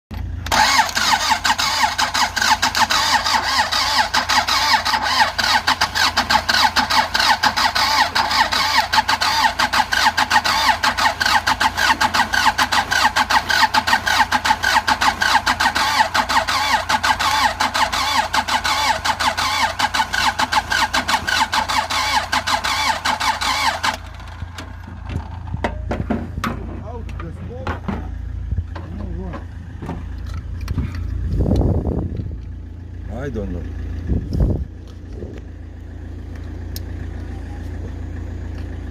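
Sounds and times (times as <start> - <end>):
starter motor cranking diesel engine: 0.1 - 38.9.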